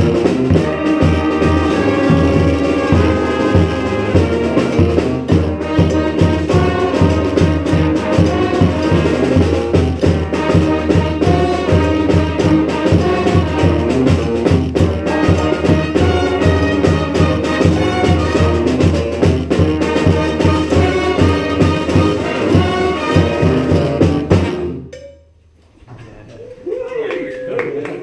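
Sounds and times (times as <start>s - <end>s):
brass band playing: 0.0s - 24.9s.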